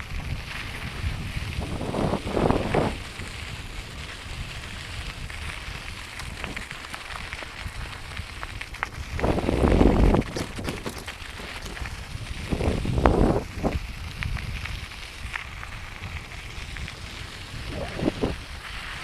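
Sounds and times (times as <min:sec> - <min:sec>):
bike tyres on dirt and gravel: 0:00.0 - 0:19.0
small ticks and crunches: 0:00.0 - 0:19.0
wind buffeting microphone: 0:00.0 - 0:19.0.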